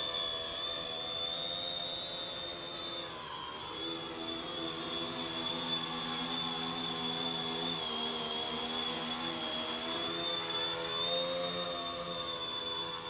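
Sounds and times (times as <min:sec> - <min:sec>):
drone motors and propellers buzzing: 0:00.0 - 0:13.0.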